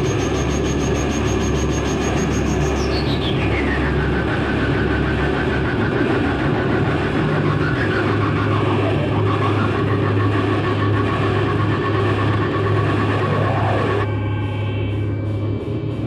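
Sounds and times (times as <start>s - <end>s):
dense wall of noise: 0.0s - 16.0s
low drone: 0.0s - 16.0s.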